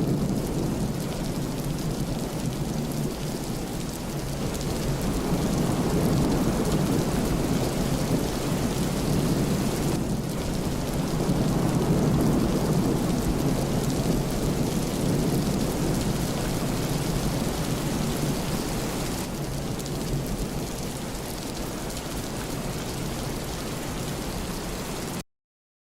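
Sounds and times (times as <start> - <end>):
rolling thunder: 0.0 - 21.8
steady rain falling: 0.0 - 25.2.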